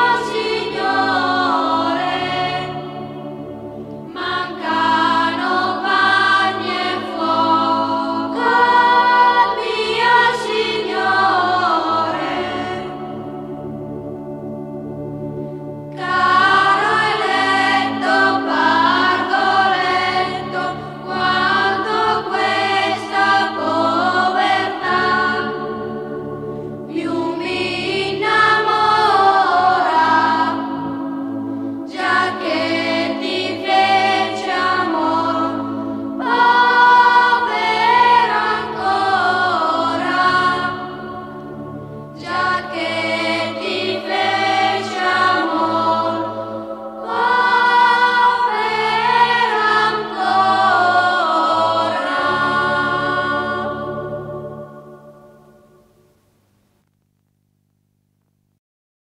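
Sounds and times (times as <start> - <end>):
choir singing slow phrases: 0.0 - 56.1.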